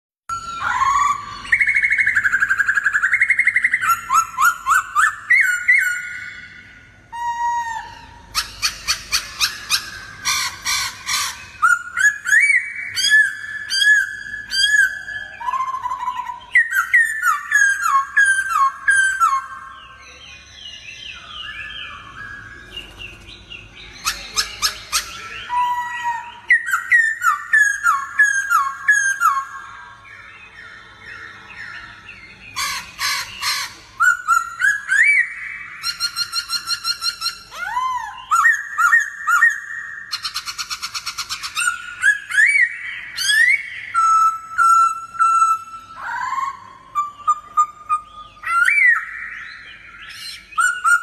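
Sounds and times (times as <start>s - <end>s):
songbird singing: 0.3s - 51.0s.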